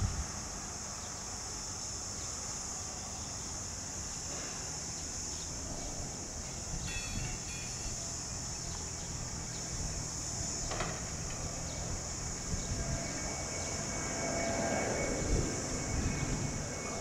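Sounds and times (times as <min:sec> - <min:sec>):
distant jet engine rumble: 0:00.0 - 0:17.0
high hiss: 0:00.0 - 0:17.0.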